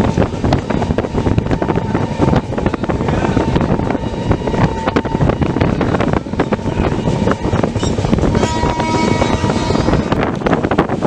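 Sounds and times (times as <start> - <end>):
train rumble: 0.0 - 11.0
wind on microphone: 0.0 - 11.0.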